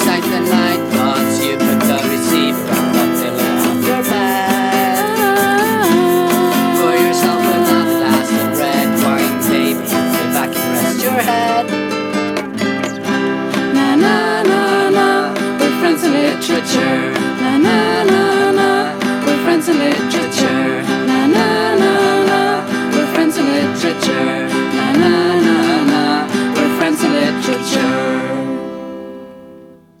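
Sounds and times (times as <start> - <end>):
indie pop song with guitar: 0.0 - 29.8.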